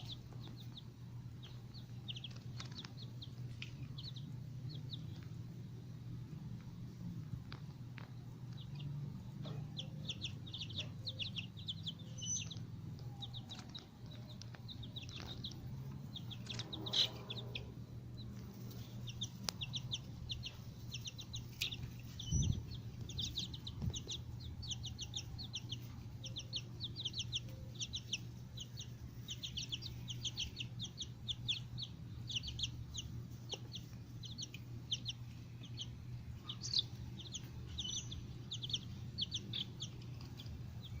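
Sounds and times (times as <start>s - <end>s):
chicks peeping: 0.0s - 41.0s
steady low hum: 0.0s - 41.0s.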